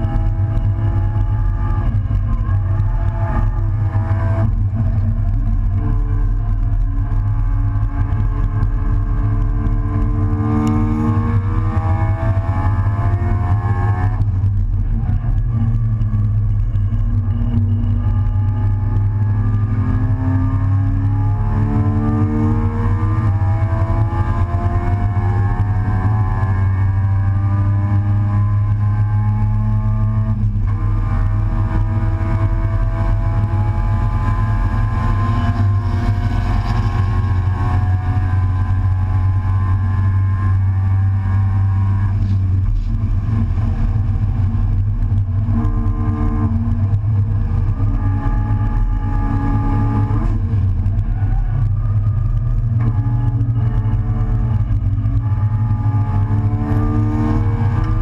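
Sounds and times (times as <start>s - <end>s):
race car engine revving: 0.0s - 58.0s
steady low rumble: 0.0s - 58.0s.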